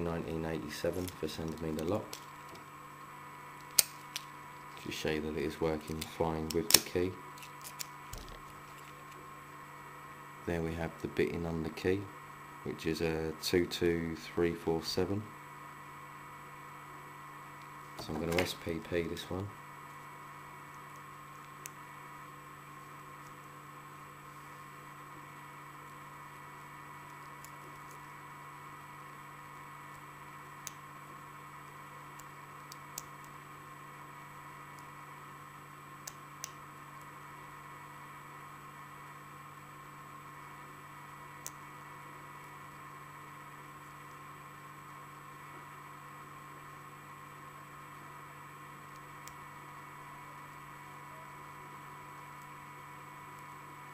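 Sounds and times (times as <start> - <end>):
background hum and hiss: 0.0 - 53.9.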